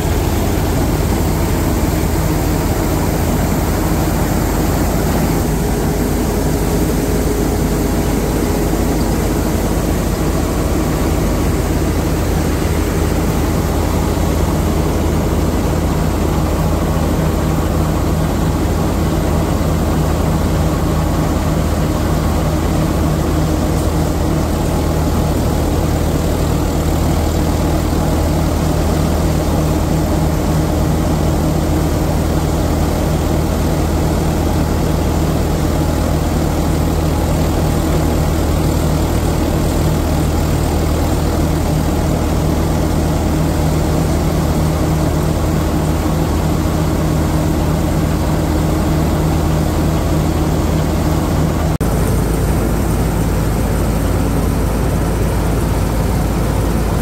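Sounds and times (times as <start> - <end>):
tractor and thresher droning: 0.0 - 57.0.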